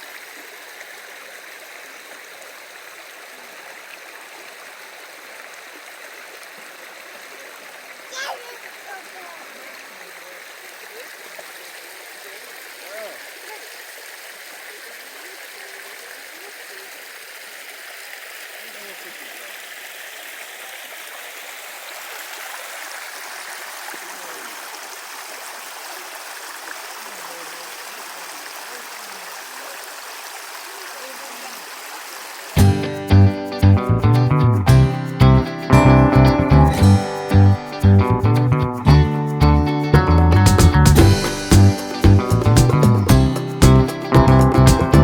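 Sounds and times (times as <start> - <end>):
water rushing: 0.0 - 45.0.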